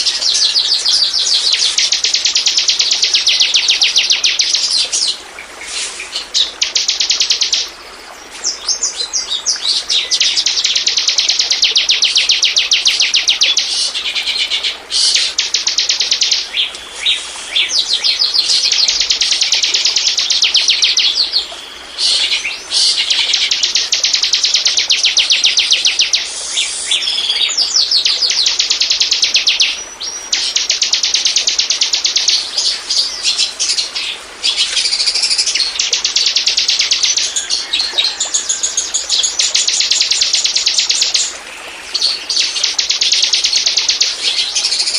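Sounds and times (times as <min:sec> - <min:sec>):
bird song rapid chattering: 0:00.0 - 0:05.1, 0:05.7 - 0:07.7, 0:08.5 - 0:14.4, 0:15.0 - 0:41.3, 0:41.9 - 0:44.9.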